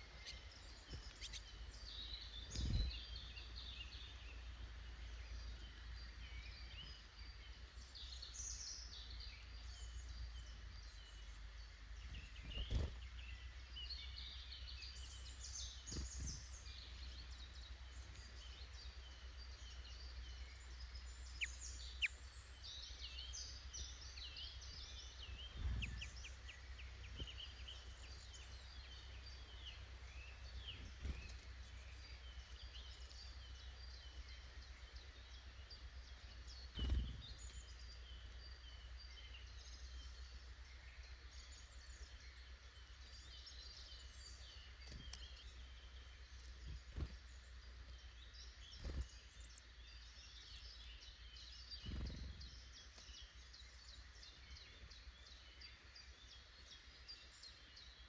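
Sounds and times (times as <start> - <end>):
faint low hum: 0.0 - 58.0
songbirds chirping and trilling: 0.0 - 58.0.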